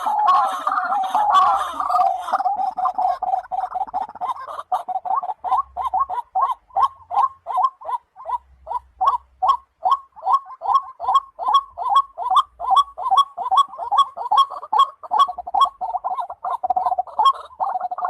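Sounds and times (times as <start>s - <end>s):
waterhen calling: 0.0s - 18.0s.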